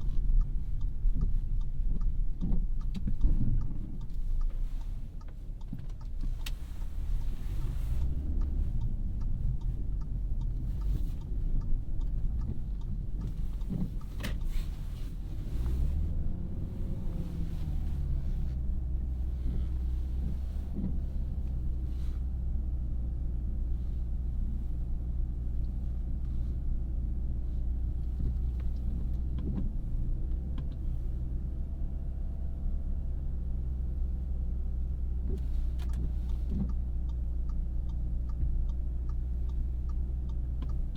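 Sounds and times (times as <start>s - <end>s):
car engine from inside cabin: 0.0s - 40.9s.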